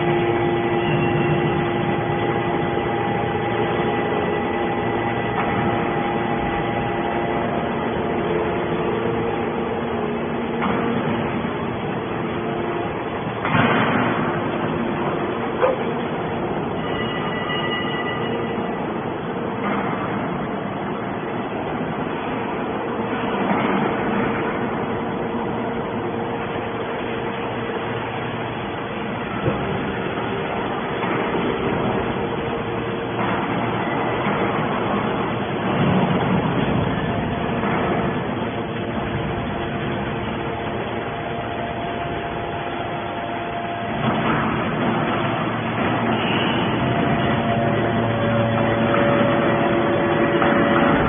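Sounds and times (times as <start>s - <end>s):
hydraulic baler motor and pump: 0.0s - 51.0s
industrial machinery whine: 0.0s - 51.0s.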